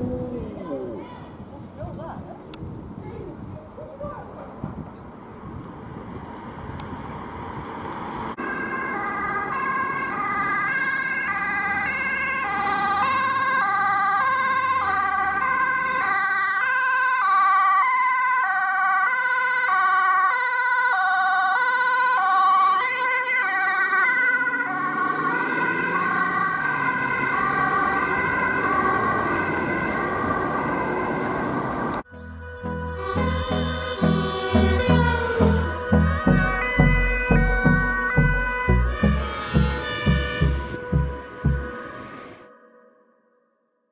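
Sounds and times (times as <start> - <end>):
traffic and engine noise: 0.0 - 18.5, 19.1 - 42.5
ambulance two-tone siren: 8.4 - 43.6.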